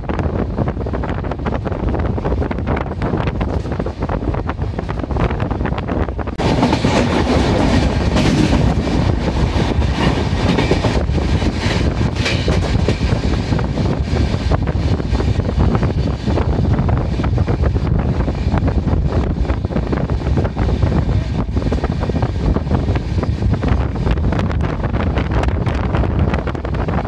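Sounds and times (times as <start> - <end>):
rushing air: 0.0 - 27.0
train wheels rumbling on rails: 0.0 - 27.0.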